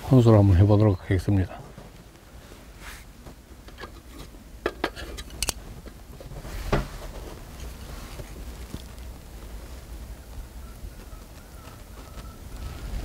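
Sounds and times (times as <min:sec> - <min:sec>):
handling noise: 0:01.6 - 0:13.0.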